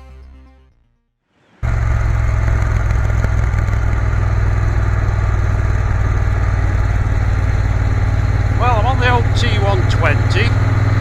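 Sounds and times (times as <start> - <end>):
motorcycle engine running: 1.6 - 11.0.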